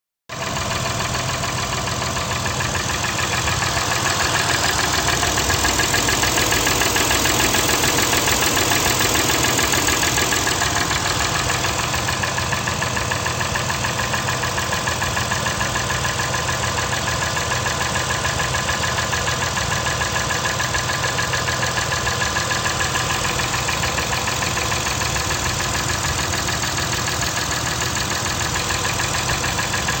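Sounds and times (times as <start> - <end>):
car engine idling: 0.3 - 30.0.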